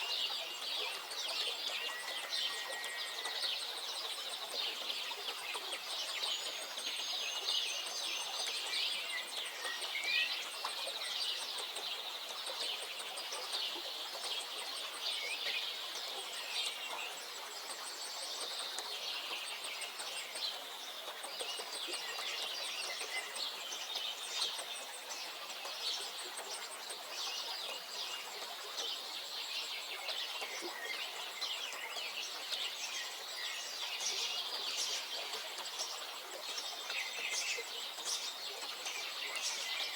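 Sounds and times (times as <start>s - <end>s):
songbirds chirping and singing: 0.1s - 39.9s.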